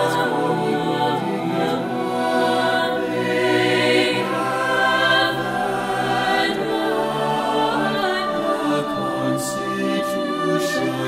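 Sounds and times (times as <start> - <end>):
a cappella choir singing: 0.0 - 11.0.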